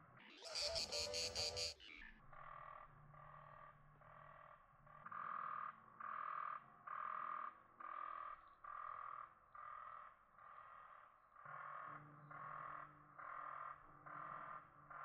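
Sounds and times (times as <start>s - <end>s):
frogs croaking: 0.1s - 15.0s.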